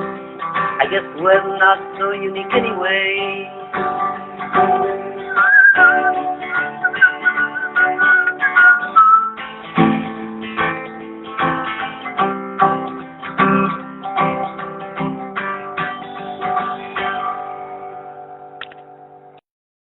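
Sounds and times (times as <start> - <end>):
acoustic guitar strumming chords: 0.0 - 19.4.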